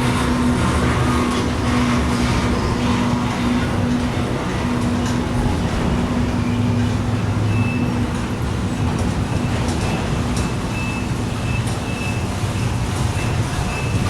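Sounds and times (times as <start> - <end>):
rail and wheel noise: 0.0 - 14.0
train engine drone: 0.0 - 14.0.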